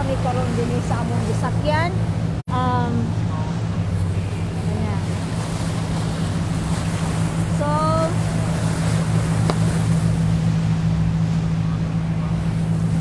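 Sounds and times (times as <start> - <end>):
speedboat engine running: 0.0 - 13.0
water rushing past hull: 0.0 - 13.0
wind on microphone: 0.0 - 13.0.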